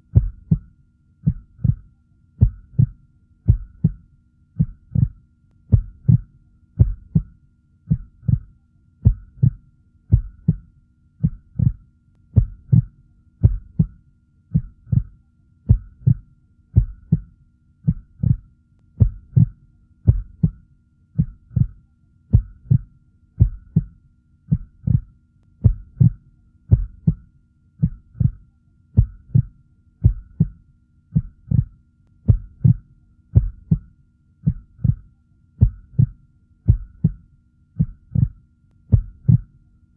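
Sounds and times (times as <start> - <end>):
heartbeat double thumps: 0.1 - 11.8, 12.4 - 16.2, 16.8 - 20.6, 21.2 - 28.4, 29.0 - 39.5.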